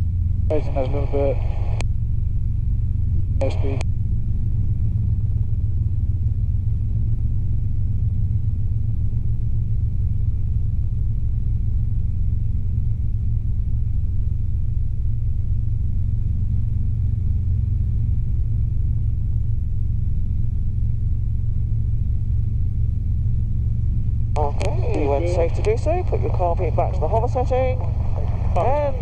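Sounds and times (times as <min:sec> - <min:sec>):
helicopter engine and rotors: 0:00.0 - 0:29.0
faint high whine: 0:00.1 - 0:29.0.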